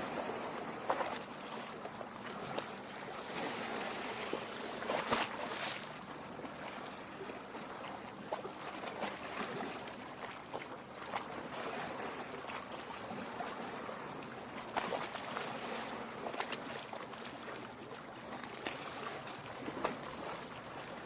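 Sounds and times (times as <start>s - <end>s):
water lapping against rocks: 0.0s - 21.0s.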